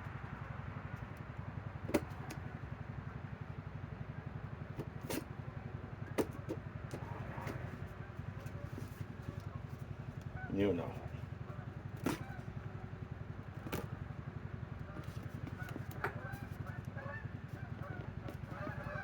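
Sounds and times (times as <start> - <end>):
steady low hum: 2.4 - 19.0.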